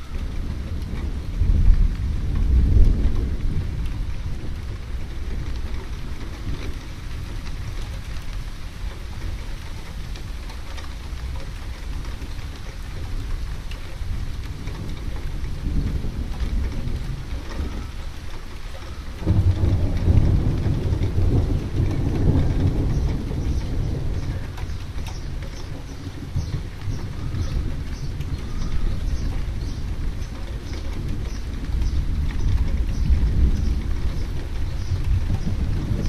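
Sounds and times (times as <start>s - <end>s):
steady rain: 0.0s - 36.0s
thunder rumbling: 0.0s - 36.0s.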